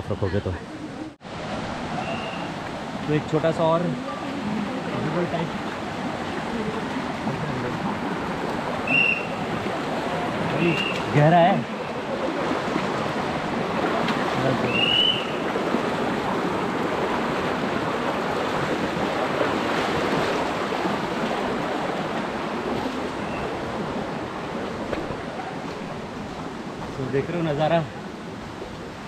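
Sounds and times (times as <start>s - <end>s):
stream rushing over stones: 1.2s - 29.0s.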